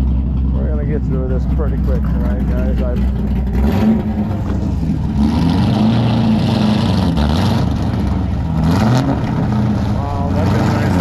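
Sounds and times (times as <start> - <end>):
car engine driving by: 0.0 - 11.0.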